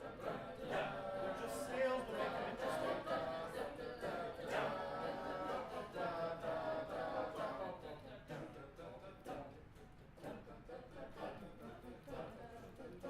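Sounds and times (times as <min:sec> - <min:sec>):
group singing scale passages: 0:00.0 - 0:13.0.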